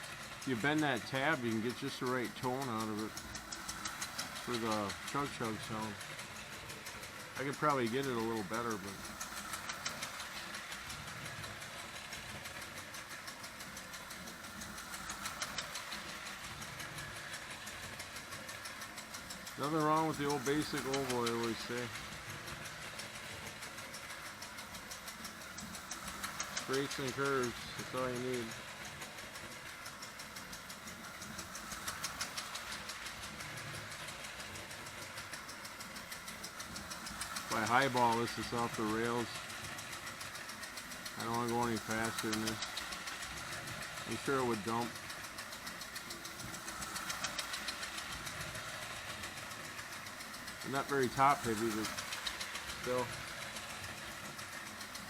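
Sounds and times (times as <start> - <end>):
toy locomotive ticking chug: 0.0 - 55.0
toy train motor hum: 0.0 - 55.0.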